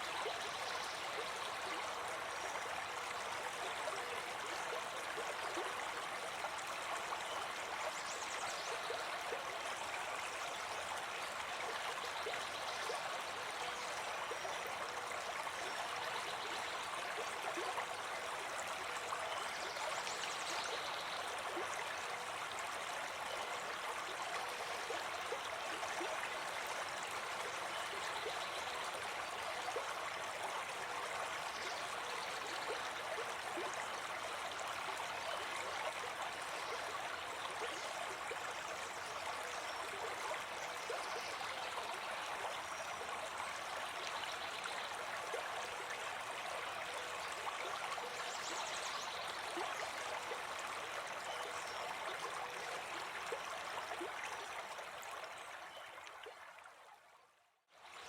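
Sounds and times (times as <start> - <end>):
brook babbling: 0.0 - 58.0.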